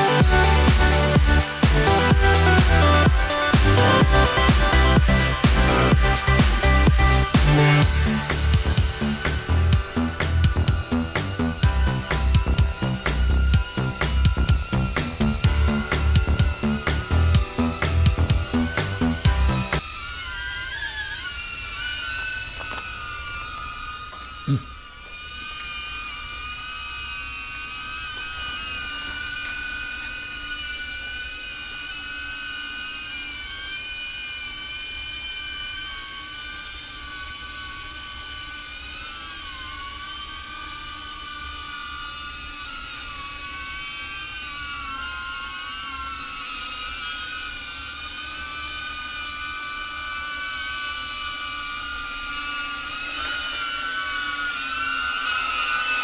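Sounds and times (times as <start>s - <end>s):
drone propellers whining: 0.0s - 56.0s.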